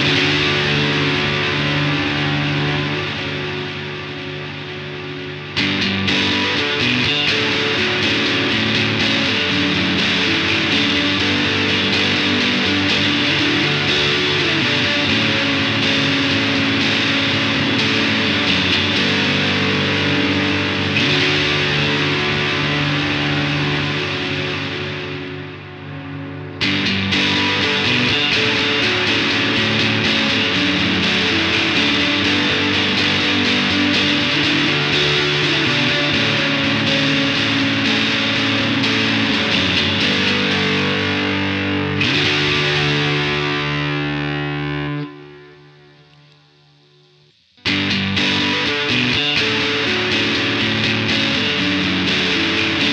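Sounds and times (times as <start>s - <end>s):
electric guitar chords with reverb: 0.0s - 52.9s.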